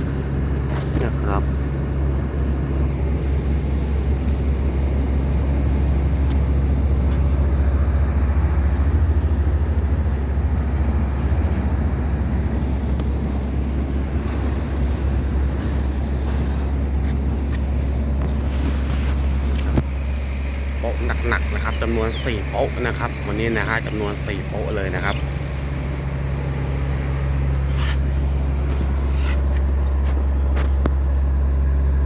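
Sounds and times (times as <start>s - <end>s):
boat engine deep hum: 0.0s - 32.0s
water noise: 0.0s - 32.0s.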